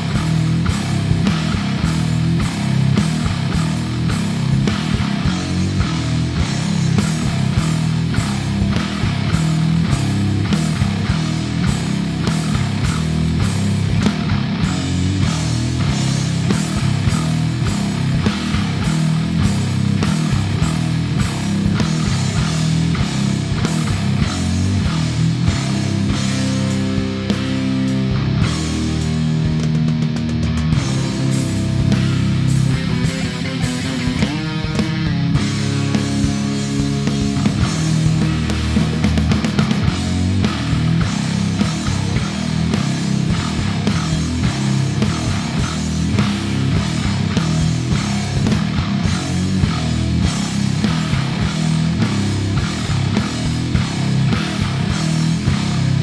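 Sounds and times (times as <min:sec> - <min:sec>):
bass guitar with effects: 0:00.0 - 0:56.0
drum kit: 0:00.0 - 0:56.0.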